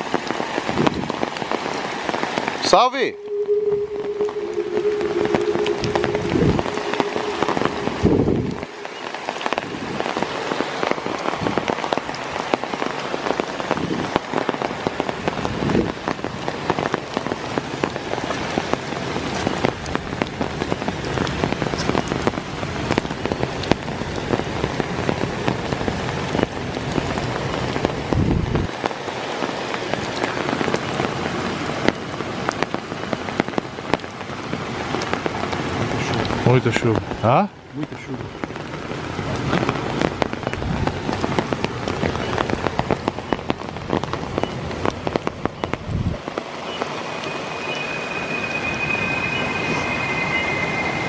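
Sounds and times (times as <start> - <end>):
heavy rain on leaves: 0.0 - 51.0.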